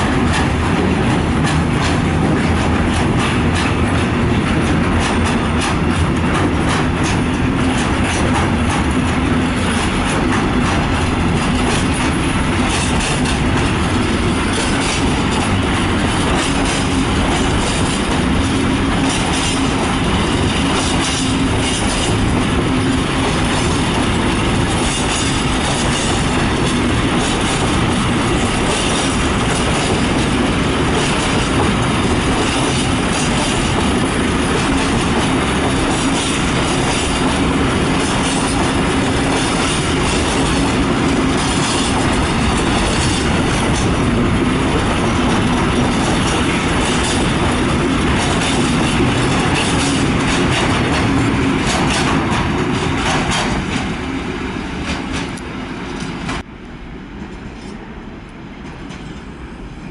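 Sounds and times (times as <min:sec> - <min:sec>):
train wheels clattering on rails: 0:00.0 - 0:56.5, 0:57.2 - 0:59.9.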